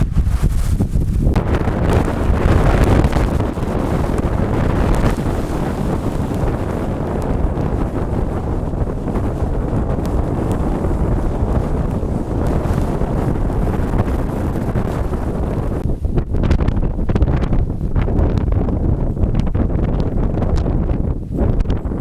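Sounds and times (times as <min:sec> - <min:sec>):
strong wind blasting microphone: 0:00.0 - 0:22.0.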